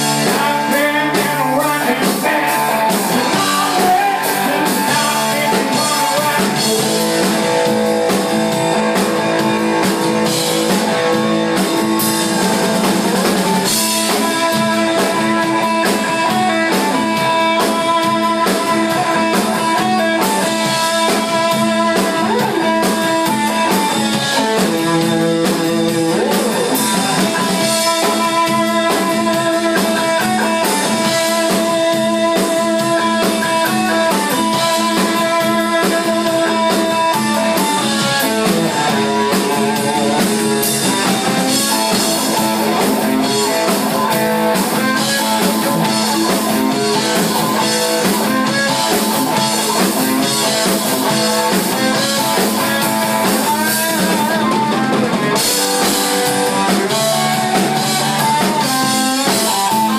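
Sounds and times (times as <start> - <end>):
drum kit: 0.0 - 59.9
electric bass: 0.0 - 59.9
electric guitar: 0.0 - 59.9.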